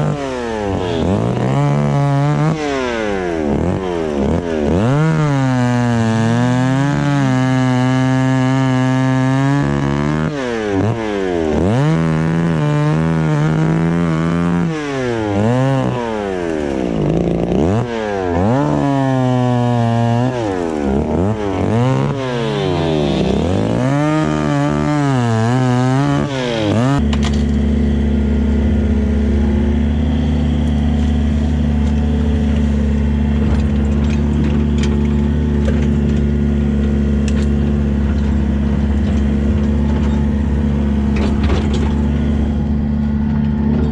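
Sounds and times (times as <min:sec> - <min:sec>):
diesel engine running: 0:00.0 - 0:06.8, 0:09.7 - 0:43.9
chainsaw revving and cutting: 0:00.0 - 0:43.9.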